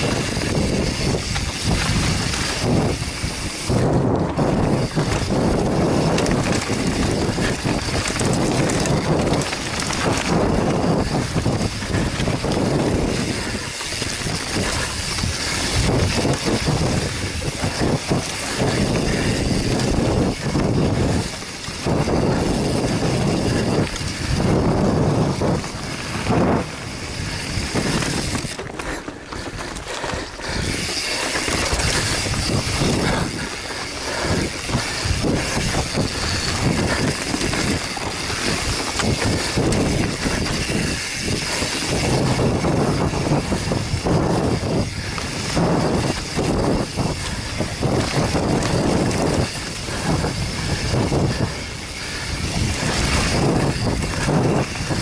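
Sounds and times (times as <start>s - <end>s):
tyres rumbling on dirt: 0.0s - 55.0s
wind buffeting microphone: 0.0s - 55.0s.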